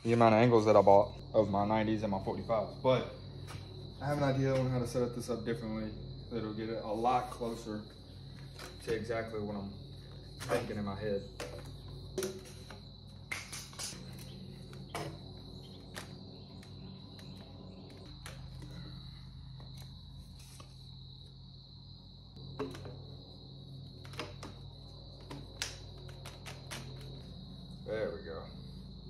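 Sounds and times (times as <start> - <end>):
high insect drone: 0.0 - 29.0.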